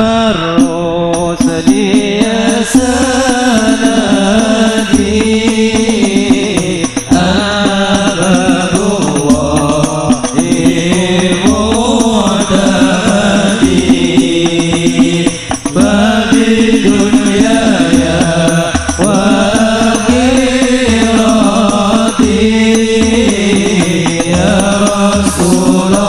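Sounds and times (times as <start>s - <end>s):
man singing into a microphone: 0.0s - 26.0s
instrumental backing: 0.1s - 26.0s.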